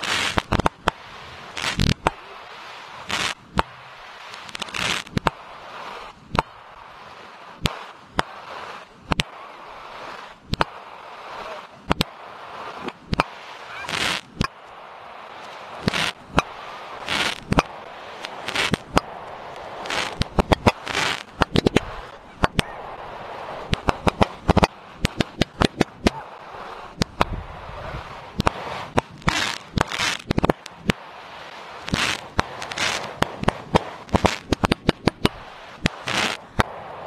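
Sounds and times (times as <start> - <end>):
fireworks banging and crackling: 0.0 - 36.8
fireworks hissing: 0.0 - 37.0.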